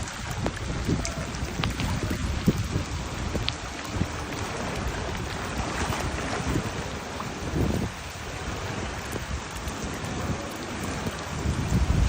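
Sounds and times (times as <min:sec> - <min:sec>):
heavy rain falling: 0:00.0 - 0:12.0
louder raindrops tapping: 0:00.0 - 0:12.0.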